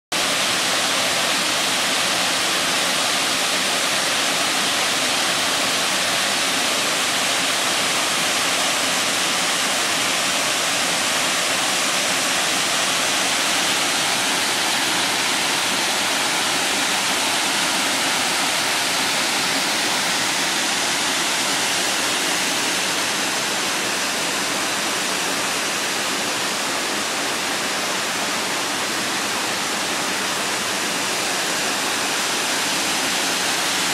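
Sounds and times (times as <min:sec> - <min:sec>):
waterfall pouring over rocks: 0:00.1 - 0:33.9.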